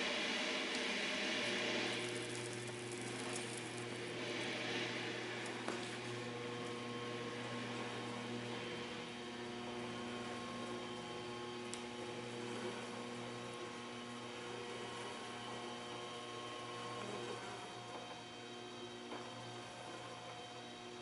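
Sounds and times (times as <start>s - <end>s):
electric motor hum: 0.0s - 21.0s.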